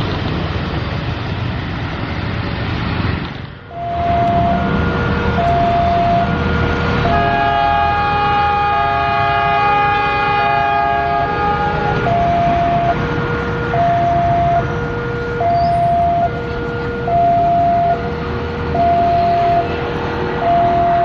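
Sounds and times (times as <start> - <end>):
train rumble: 0.0 - 21.0
locomotive air horn: 3.7 - 21.0
two-tone crossing alarm: 3.7 - 21.0.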